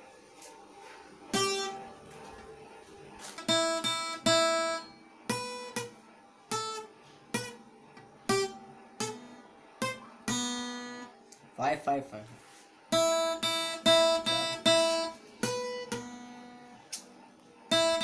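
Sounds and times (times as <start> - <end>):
acoustic guitar plucked slowly: 1.2 - 11.2, 12.9 - 18.0.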